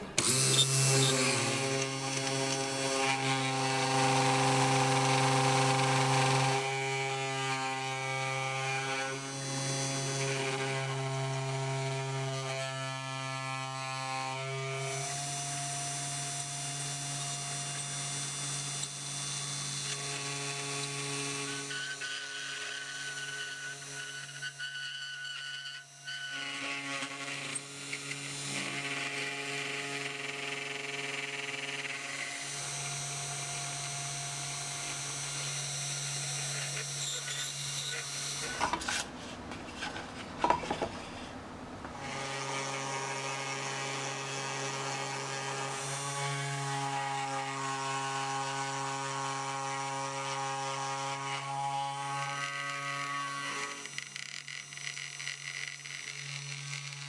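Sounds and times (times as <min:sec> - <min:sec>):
router spindle motor whine: 0:00.0 - 0:39.1, 0:41.9 - 0:57.0.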